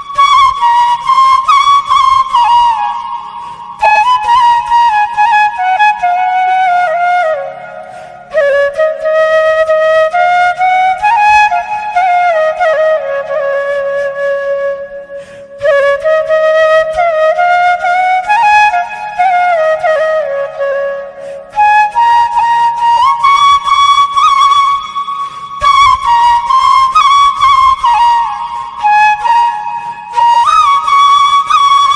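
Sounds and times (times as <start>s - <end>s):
slow solo melody: 0.0s - 31.9s.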